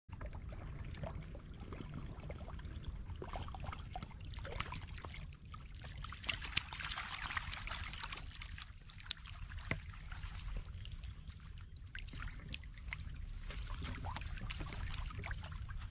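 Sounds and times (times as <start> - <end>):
shallow water trickling and splashing: 0.1 - 15.9.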